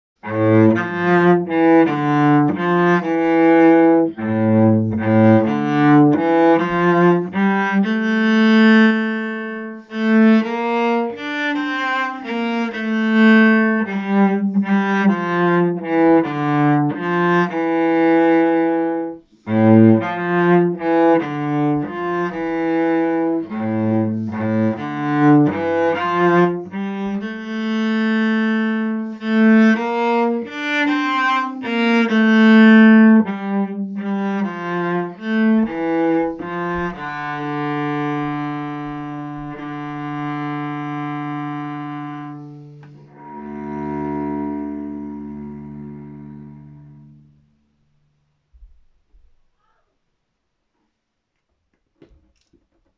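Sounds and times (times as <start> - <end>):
solo cello bowed: 0.2 - 47.6.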